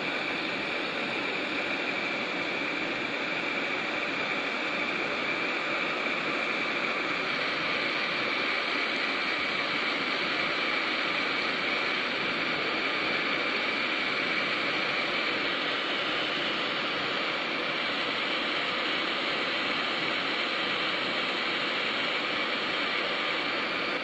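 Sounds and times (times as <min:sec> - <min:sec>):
high blower whine: 0:00.0 - 0:24.0.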